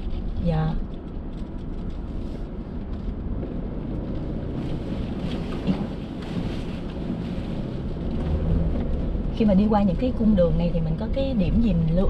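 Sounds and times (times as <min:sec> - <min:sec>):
car rumbling over rough track: 0:00.0 - 0:12.0.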